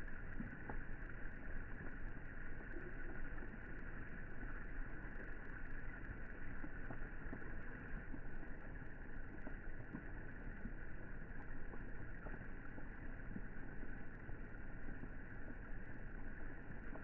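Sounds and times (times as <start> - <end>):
rain pattering on water: 0.0 - 17.0.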